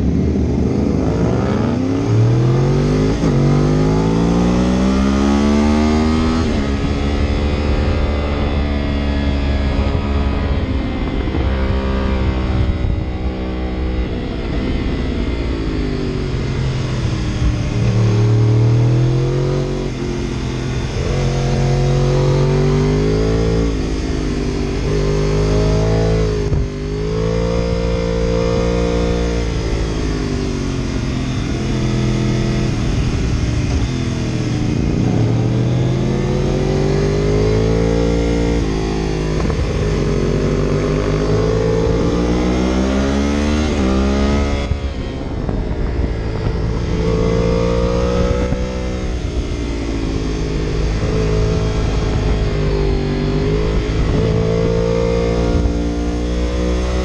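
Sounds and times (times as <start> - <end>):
engine revving: 0.0 - 57.0.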